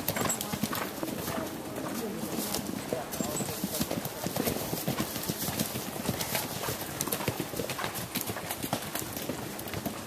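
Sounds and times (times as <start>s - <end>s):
horse hoofbeats cantering: 0.0s - 10.0s.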